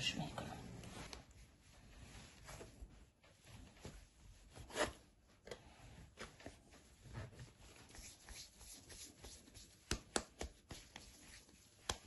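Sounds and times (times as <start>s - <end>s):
hands handling dough: 0.8s - 12.0s.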